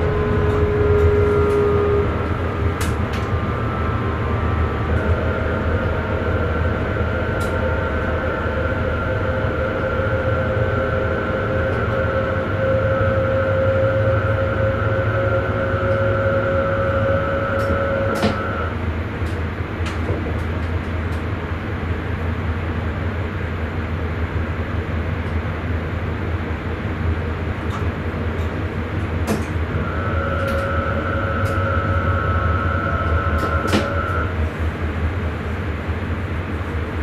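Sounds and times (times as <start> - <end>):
steady whine: 0.0 - 37.0
train rumbling: 0.0 - 37.0.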